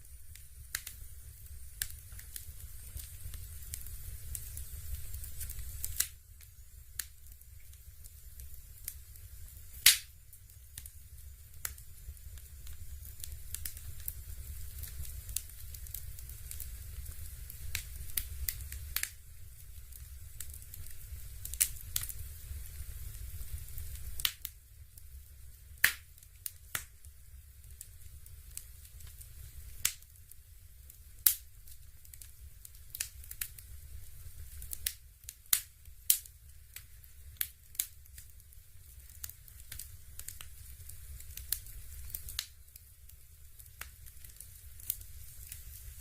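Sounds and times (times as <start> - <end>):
fireplace crackling and popping: 0.0 - 46.0.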